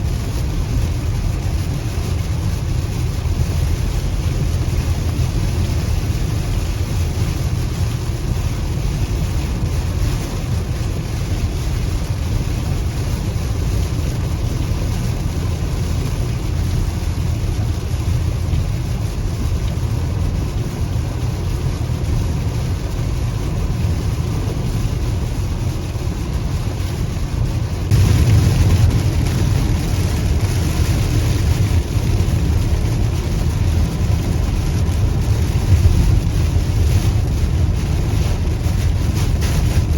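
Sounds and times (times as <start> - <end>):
low road rumble: 0.0 - 39.9
rain and tyre spray hiss: 0.0 - 39.9.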